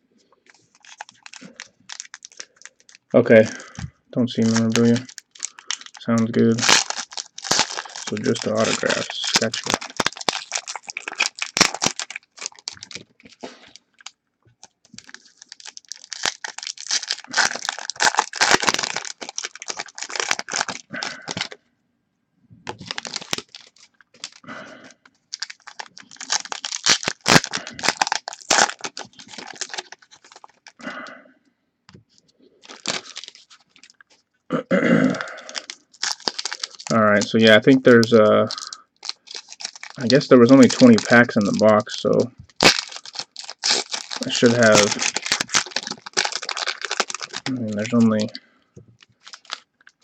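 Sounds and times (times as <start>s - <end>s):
foil wrappers tearing and crinkling: 0.5s - 3.7s, 4.3s - 21.6s, 22.7s - 30.8s, 32.6s - 34.1s, 35.1s - 48.4s, 49.0s - 50.0s.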